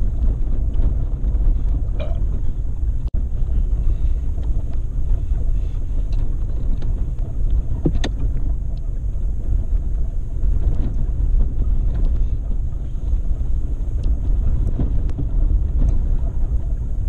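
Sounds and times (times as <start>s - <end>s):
off-road vehicle engine rumble: 0.0s - 17.0s
wind buffeting microphone: 0.0s - 17.0s.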